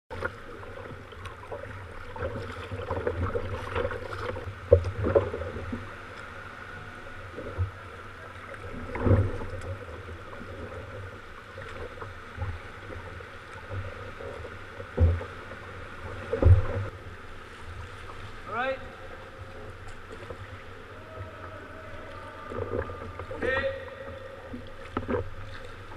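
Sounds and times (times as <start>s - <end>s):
water splashing against kayak hull: 0.1s - 25.9s.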